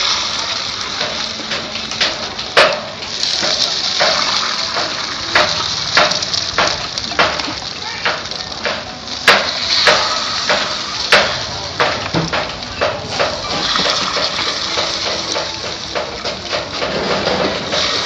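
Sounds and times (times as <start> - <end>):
cakes frying hiss: 0.0 - 18.0.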